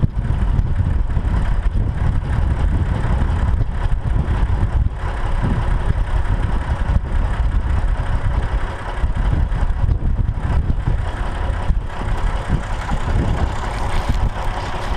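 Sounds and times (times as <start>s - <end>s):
tractor engine rumbling: 0.0s - 14.9s.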